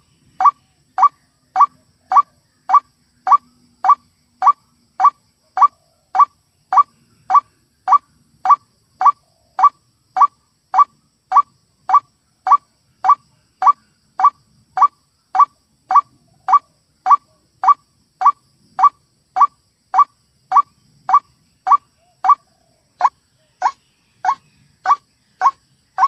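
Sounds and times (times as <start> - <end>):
bird calling: 0.0 - 26.0.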